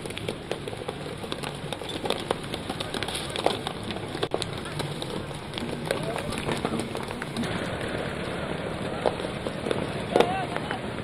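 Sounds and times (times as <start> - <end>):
road roller engine running: 0.0 - 11.0.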